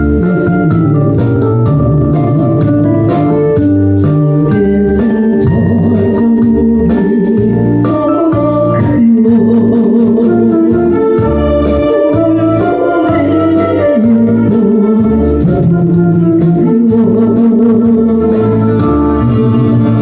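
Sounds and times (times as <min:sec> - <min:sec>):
bass line: 0:00.0 - 0:20.0
electronic organ chords: 0:00.0 - 0:20.0.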